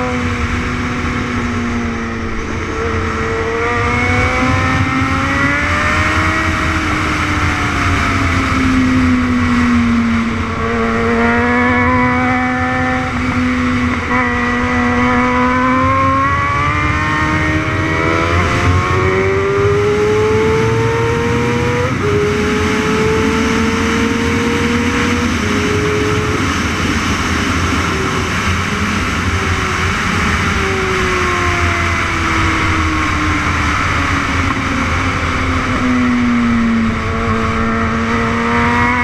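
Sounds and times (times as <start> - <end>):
motorcycle engine at high revs: 0.0 - 39.0
wind rush: 0.0 - 39.0.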